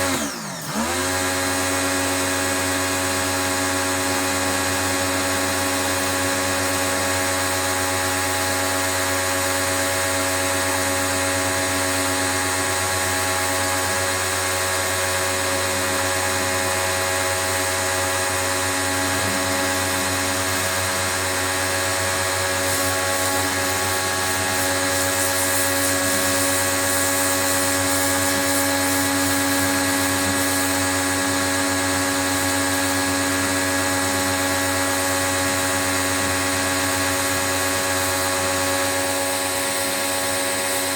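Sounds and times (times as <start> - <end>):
pressure washer motor whine: 0.0 - 40.9.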